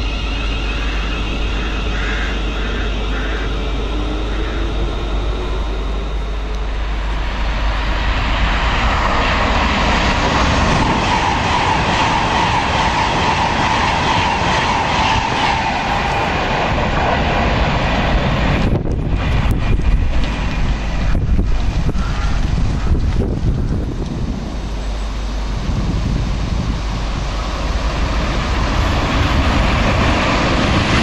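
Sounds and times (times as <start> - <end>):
electric train passing at speed: 0.0 - 31.0.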